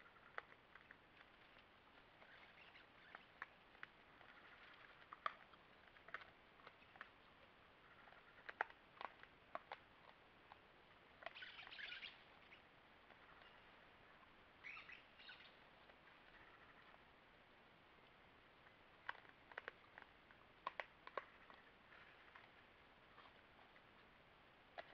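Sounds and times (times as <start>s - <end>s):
animal chewing corn clicks: 0.0s - 17.1s, 17.9s - 24.9s.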